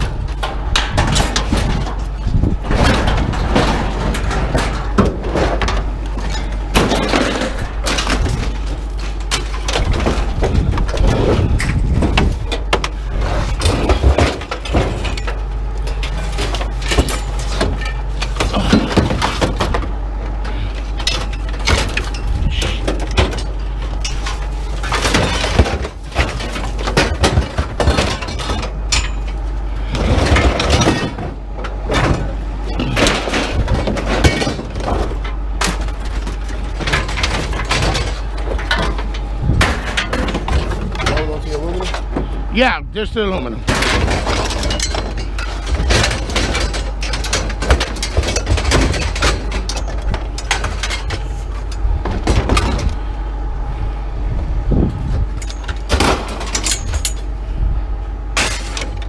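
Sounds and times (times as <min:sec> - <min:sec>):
scrap metal crashing and clanging: 0:00.0 - 0:53.0, 0:55.2 - 0:57.3, 0:58.3 - 0:59.0
low machinery hum: 0:00.0 - 0:59.0.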